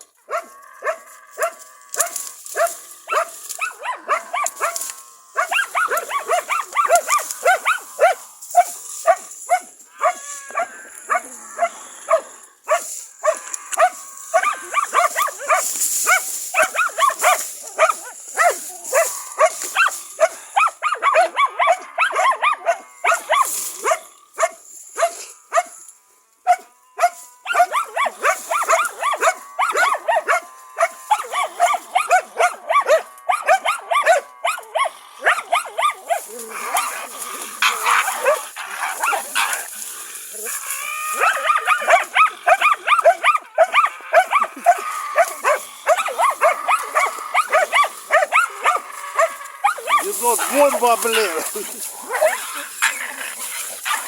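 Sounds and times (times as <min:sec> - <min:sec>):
dogs barking rapidly: 0:00.3 - 0:25.7, 0:26.5 - 0:39.8, 0:40.4 - 0:54.0.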